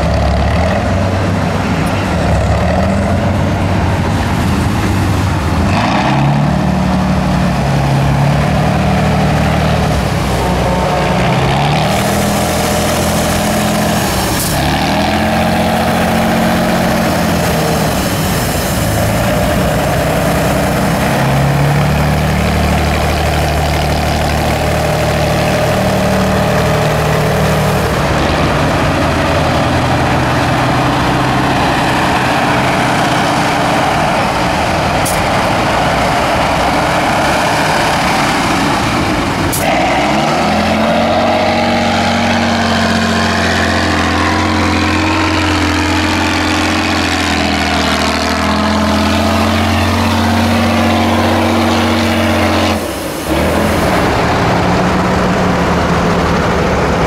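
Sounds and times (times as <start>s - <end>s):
truck diesel engine under load: 0.0s - 57.0s
tyres churning mud: 0.0s - 57.0s.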